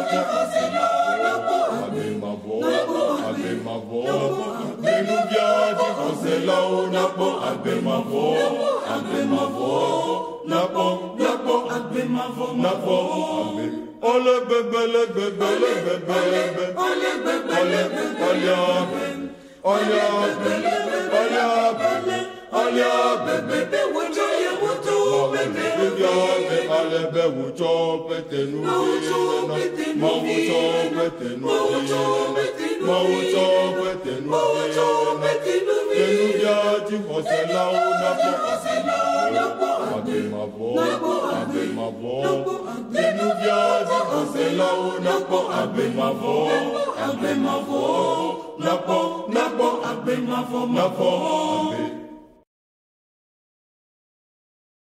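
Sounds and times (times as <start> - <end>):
choir singing unaccompanied: 0.0 - 52.4.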